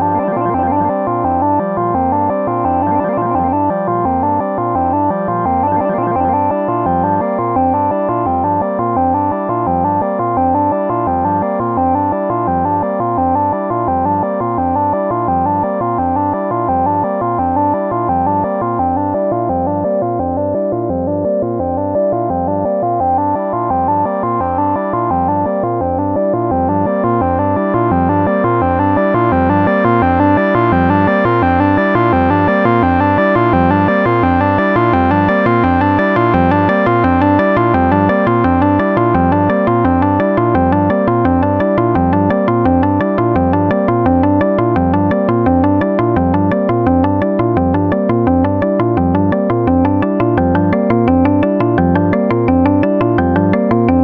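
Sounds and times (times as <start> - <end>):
synthesizer step sequence: 0.0 - 10.3, 20.3 - 54.0.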